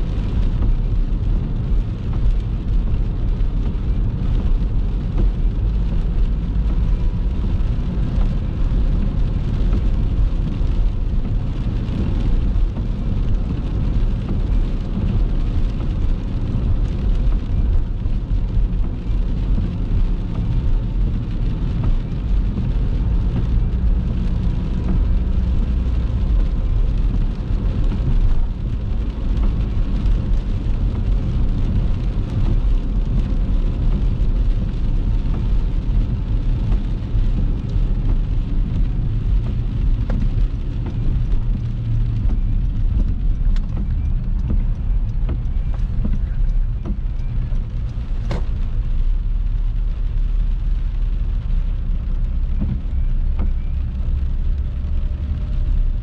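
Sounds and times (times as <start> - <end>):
car interior road and engine rumble: 0.0 - 56.0.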